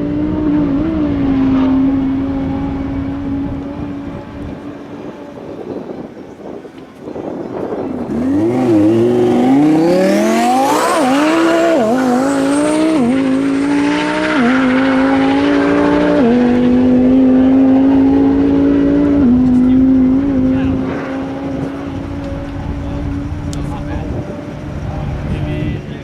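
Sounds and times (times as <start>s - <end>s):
sports car accelerating with upshifts: 0.0s - 26.0s.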